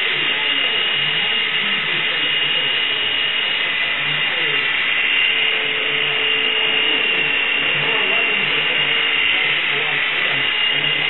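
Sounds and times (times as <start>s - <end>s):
small electric motors whirring: 0.0s - 11.0s.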